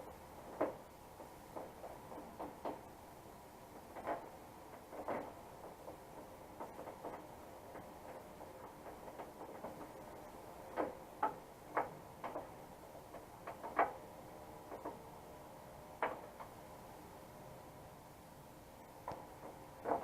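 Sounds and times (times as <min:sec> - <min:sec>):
parts clicking and knocking: 0:00.0 - 0:16.9, 0:19.0 - 0:20.0.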